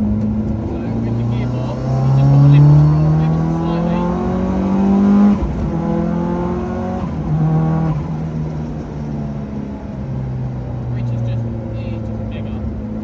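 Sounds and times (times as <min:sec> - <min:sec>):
rally car engine running: 0:00.0 - 0:13.0.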